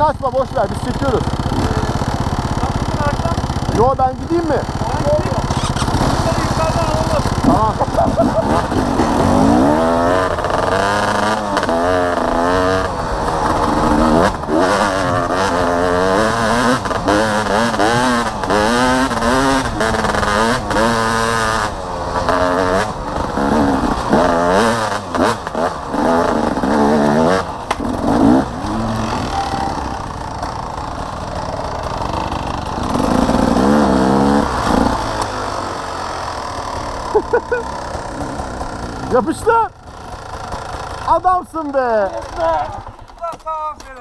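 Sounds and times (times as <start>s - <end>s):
dirt bike engine revving: 0.0s - 43.2s.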